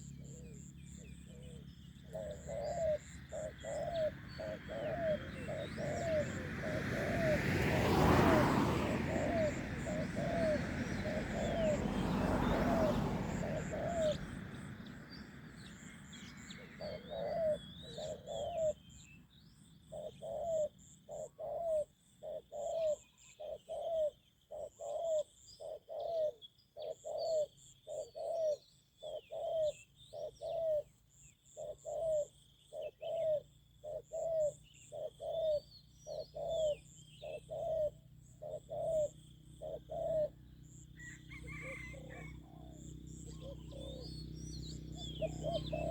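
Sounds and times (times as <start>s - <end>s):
dove cooing: 0.0s - 15.0s, 15.9s - 19.0s, 19.9s - 31.0s, 31.6s - 45.9s
small birds chirping faintly: 9.0s - 45.9s.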